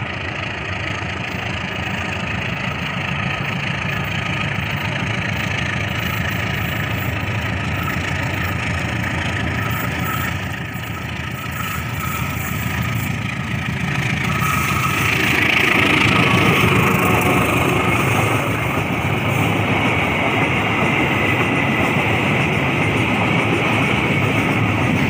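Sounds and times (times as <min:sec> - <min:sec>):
diesel locomotive engine: 0:00.0 - 0:25.0
wagon wheels rumbling on rails: 0:00.0 - 0:25.0.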